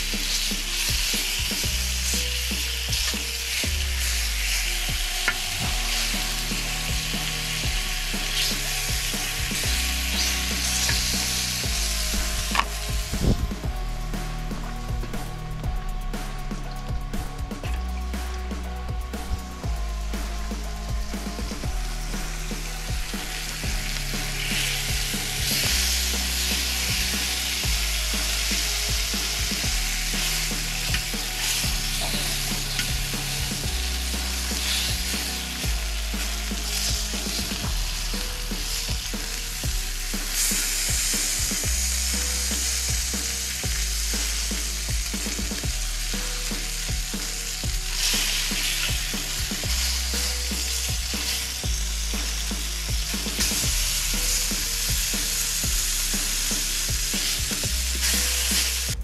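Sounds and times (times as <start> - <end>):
food sizzling in a pan: 0.0 - 15.6, 17.3 - 59.0
background music with bass line: 0.0 - 59.0.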